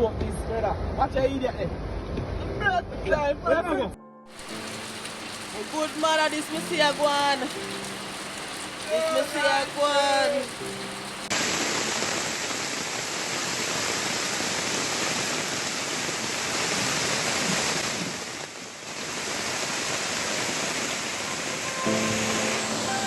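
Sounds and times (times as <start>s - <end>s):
rushing water: 4.3s - 23.0s.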